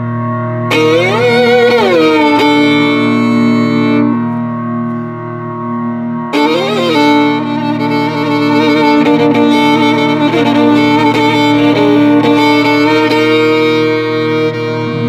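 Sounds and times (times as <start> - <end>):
violin playing: 0.0 - 5.2, 6.3 - 15.0
low drone: 0.0 - 15.0.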